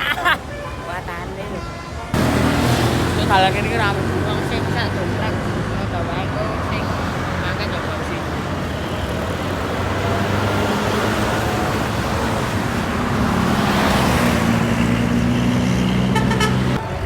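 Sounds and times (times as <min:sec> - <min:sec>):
bus engine humming: 0:00.0 - 0:17.0
tyre and road noise: 0:00.0 - 0:17.0.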